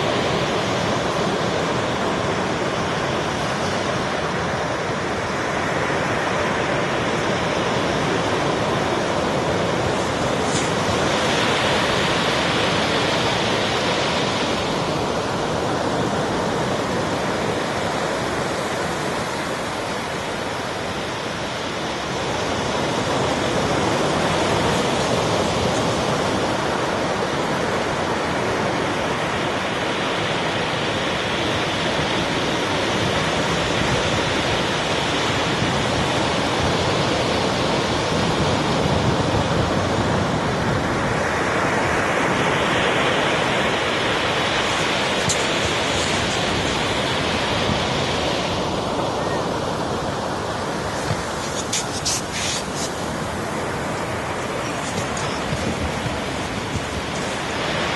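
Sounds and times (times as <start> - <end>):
sea waves washing ashore: 0.0 - 57.9.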